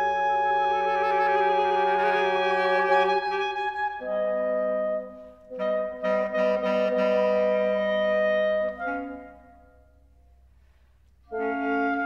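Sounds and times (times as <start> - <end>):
woodwind trio playing chords: 0.0 - 10.1, 11.3 - 12.0.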